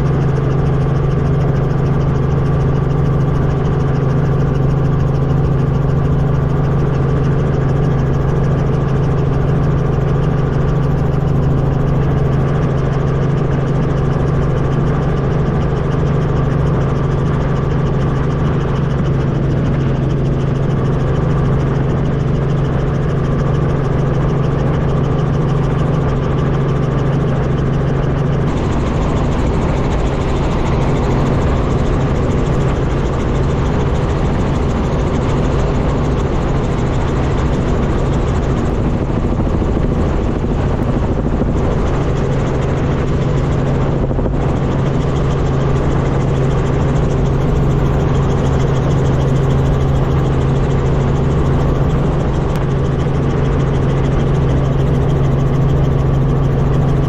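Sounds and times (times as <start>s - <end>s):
helicopter engine and rotor noise: 0.0s - 57.0s.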